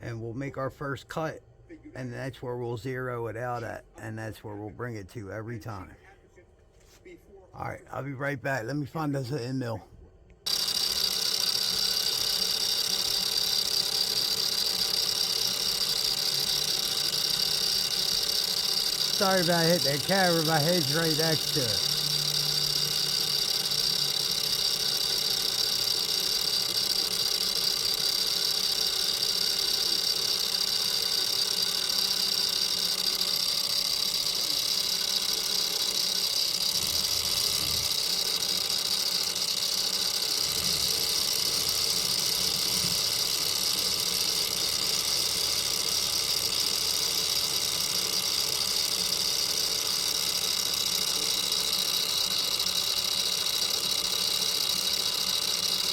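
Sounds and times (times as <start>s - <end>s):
machine hum: 8.6s - 55.9s
high-pitched machine whine: 10.4s - 55.9s.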